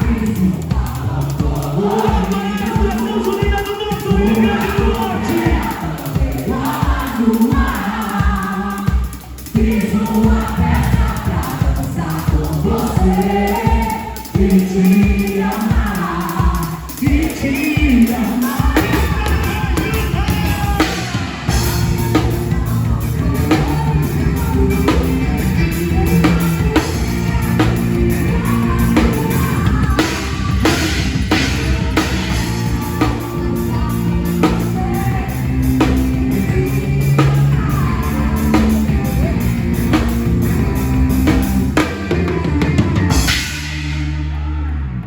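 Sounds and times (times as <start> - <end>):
drums steady beat: 0.0 - 44.4
live band playing: 0.0 - 45.0
voices singing together: 0.0 - 45.0.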